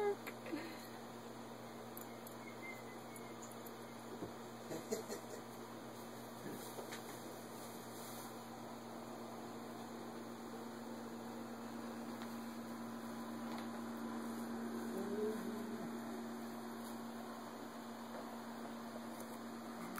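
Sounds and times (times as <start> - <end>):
electrical hum: 0.0 - 19.9.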